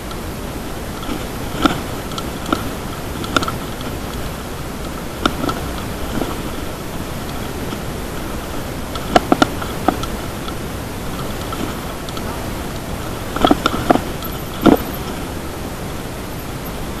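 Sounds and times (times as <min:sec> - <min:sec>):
bike knocks and rattles: 0:00.0 - 0:17.0
bike rolling rushing noise: 0:00.0 - 0:17.0.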